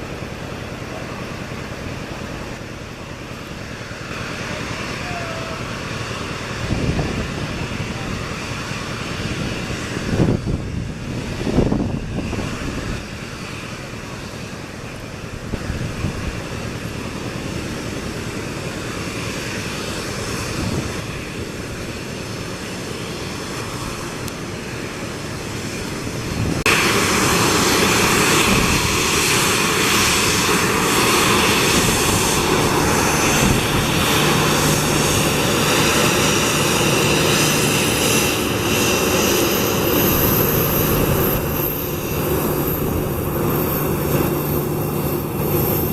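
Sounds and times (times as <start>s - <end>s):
jet engines running: 0.0s - 45.9s.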